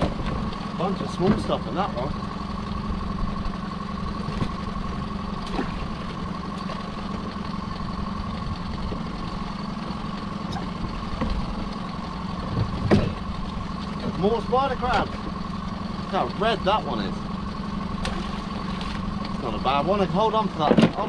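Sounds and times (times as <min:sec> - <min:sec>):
outboard engine idling: 0:00.0 - 0:21.0.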